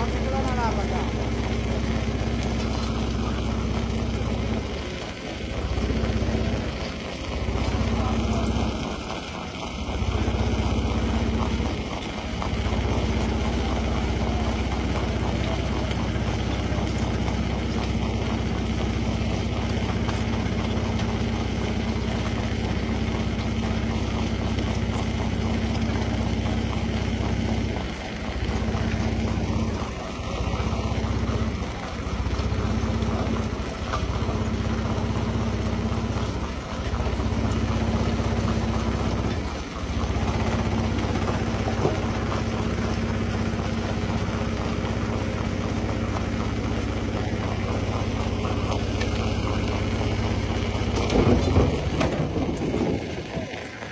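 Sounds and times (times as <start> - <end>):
stone crusher engine drone: 0.0 - 53.9.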